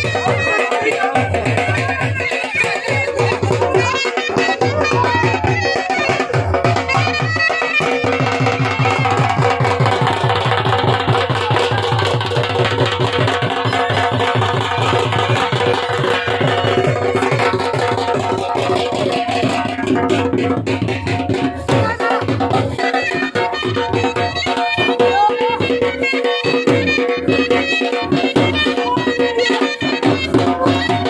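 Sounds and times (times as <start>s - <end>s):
dhol drum beating: 0.0s - 31.0s
reedy wind instrument melody: 0.0s - 31.0s.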